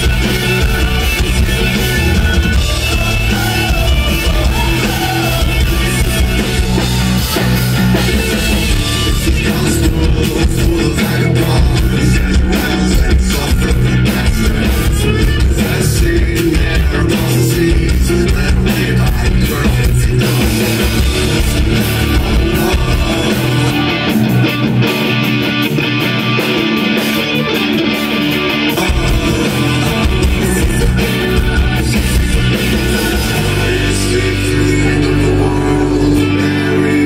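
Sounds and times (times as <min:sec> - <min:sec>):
bass guitar: 0:00.0 - 0:37.0
drum kit: 0:00.0 - 0:37.0
electric guitars: 0:00.0 - 0:37.0.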